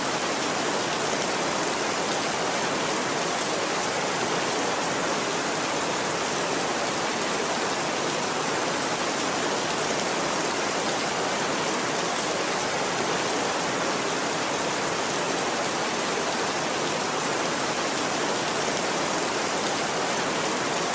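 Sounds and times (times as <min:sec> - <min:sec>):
steady rainfall: 0:00.0 - 0:20.9.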